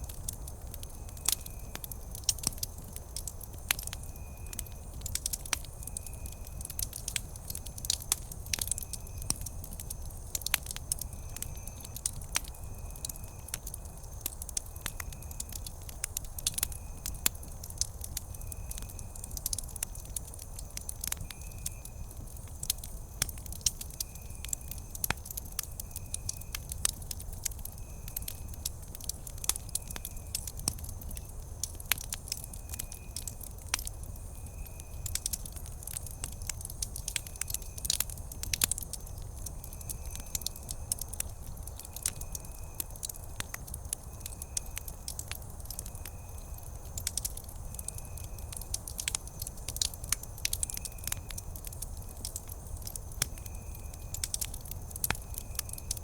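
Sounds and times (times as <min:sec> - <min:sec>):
campfire crackling and popping: 0:00.0 - 0:56.0
low rumble of burning fire: 0:00.0 - 0:56.0.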